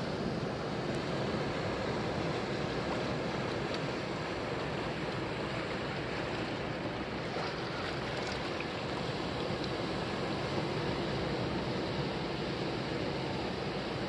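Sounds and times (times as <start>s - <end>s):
small waves breaking on shore: 0.0s - 14.0s.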